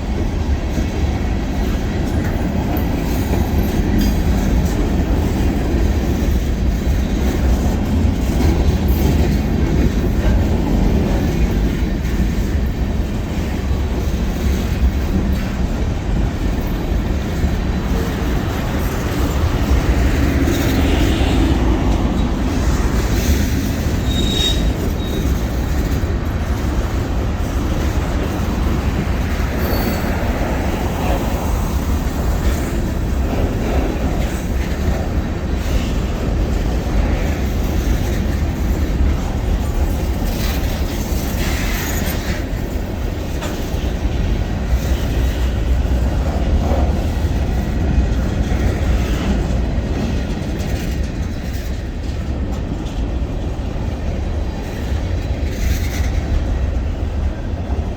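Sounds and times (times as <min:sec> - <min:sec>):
freight train rumbling: 0:00.0 - 0:57.9.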